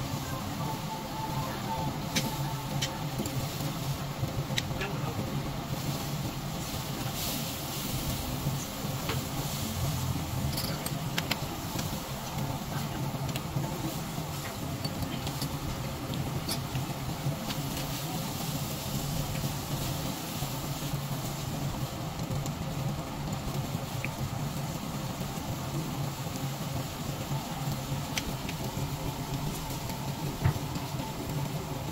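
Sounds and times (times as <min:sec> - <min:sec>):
steady low hum: 0:00.0 - 0:26.4
meat sizzling on a grill: 0:00.0 - 0:31.9.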